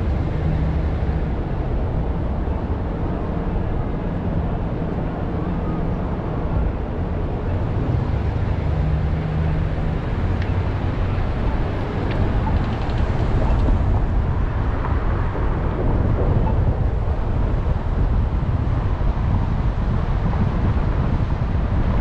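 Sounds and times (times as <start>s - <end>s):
car driving road noise: 0.0s - 22.0s.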